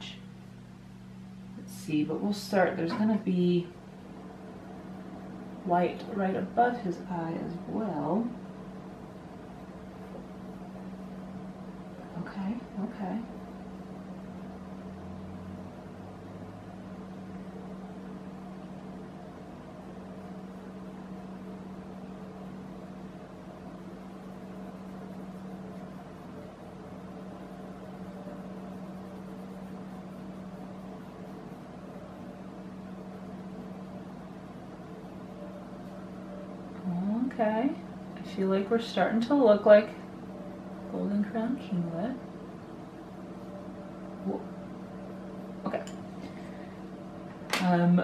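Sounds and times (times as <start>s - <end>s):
deeper hum: 0.0s - 48.0s
steady machine hum: 0.0s - 48.0s.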